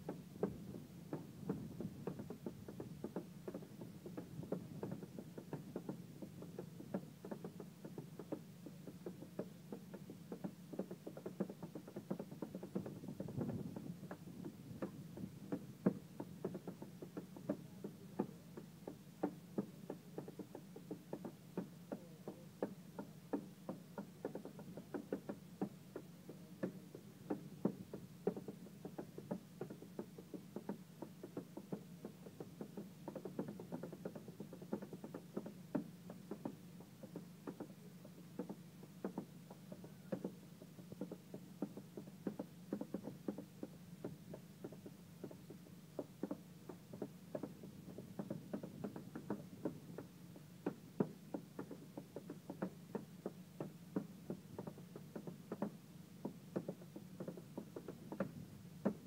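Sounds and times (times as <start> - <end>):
clogs knocking on wooden board: 0.0 - 59.0.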